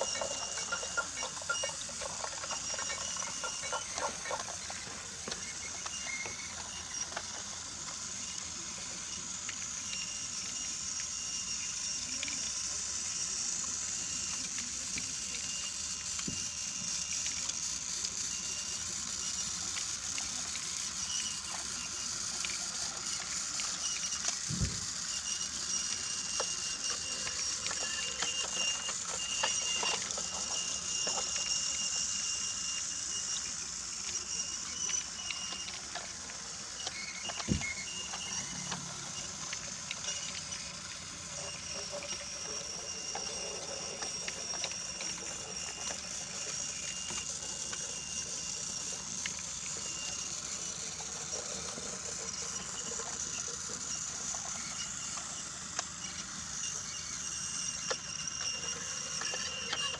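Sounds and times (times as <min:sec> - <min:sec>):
toy train motor whir: 0:00.0 - 0:59.9
wheels clicking over track: 0:00.0 - 0:59.9.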